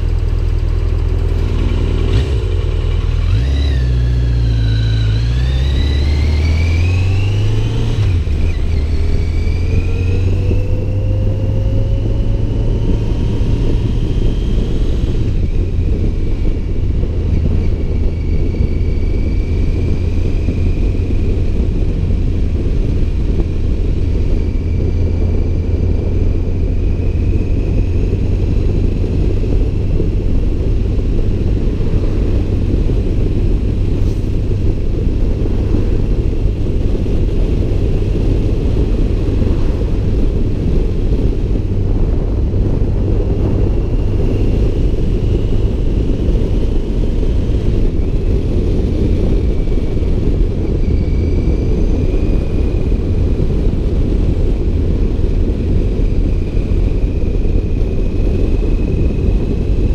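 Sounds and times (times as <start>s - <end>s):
motorcycle engine accelerating: 0.0s - 59.9s
wind rumble on microphone: 0.0s - 59.9s.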